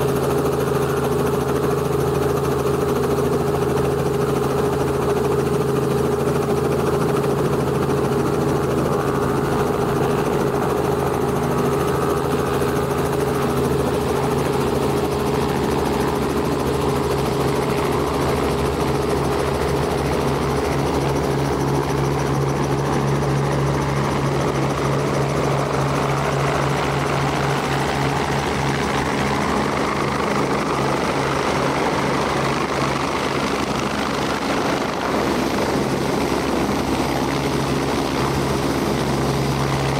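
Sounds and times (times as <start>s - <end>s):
helicopter rotor thrum: 0.0s - 39.9s
helicopter turbine whine: 0.0s - 39.9s.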